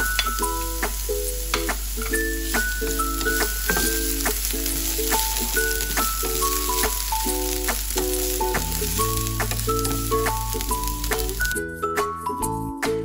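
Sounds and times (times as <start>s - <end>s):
garlic sizzling in hot oil: 0.0s - 11.6s
light melodic music with beat: 0.0s - 13.0s.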